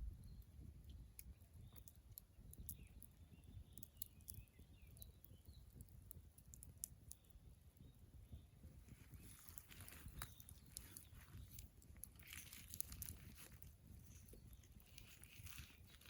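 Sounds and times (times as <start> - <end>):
faint bird chirps: 0.0 - 16.0
faint campfire crackling: 0.0 - 16.0.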